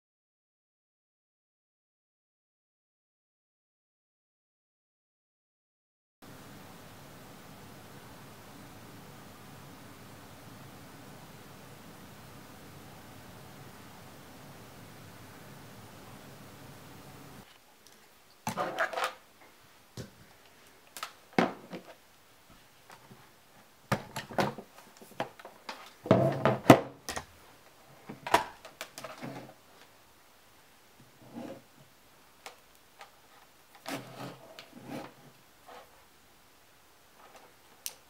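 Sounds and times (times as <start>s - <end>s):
faint steady hiss: 6.2s - 38.0s.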